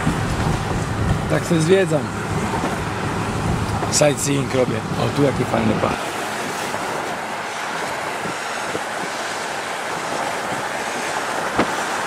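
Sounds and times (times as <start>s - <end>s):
wind and road noise from car: 0.0s - 12.0s.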